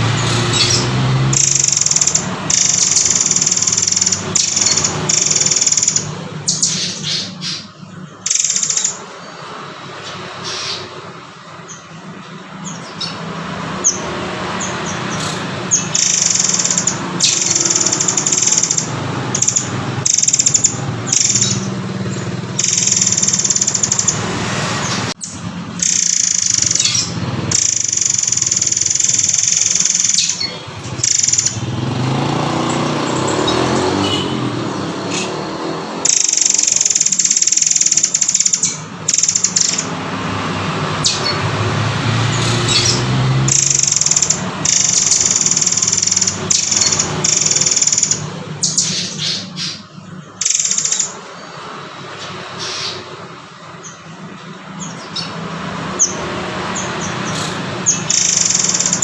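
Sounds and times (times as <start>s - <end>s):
bird calling high-pitched: 0.0s - 59.0s.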